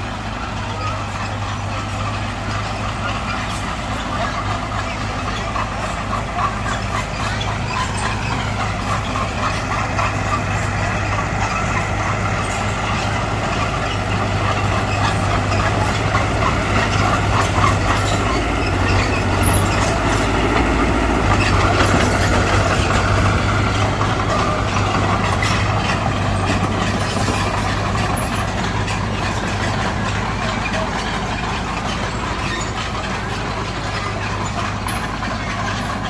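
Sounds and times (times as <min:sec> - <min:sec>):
diesel machinery running under load: 0:00.0 - 0:36.0
metal clanks and rattles: 0:00.6 - 0:36.0.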